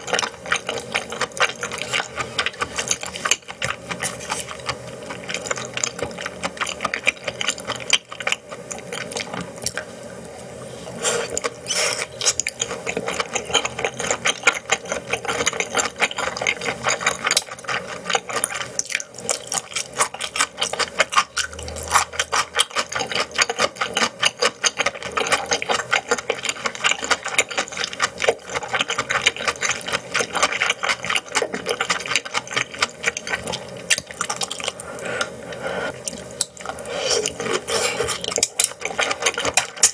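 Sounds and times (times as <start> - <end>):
person chewing with mouth clicks: 0.0 - 10.3, 11.0 - 39.9.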